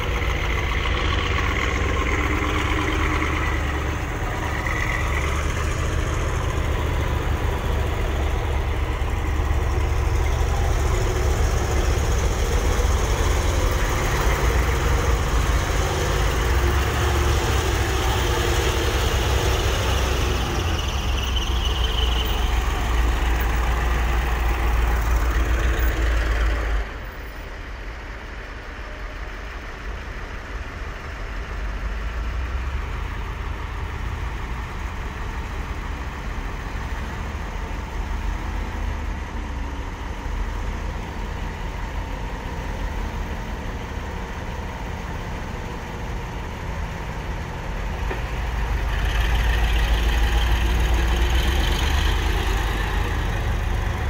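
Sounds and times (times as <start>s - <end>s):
dump truck diesel engine: 0.0s - 54.0s.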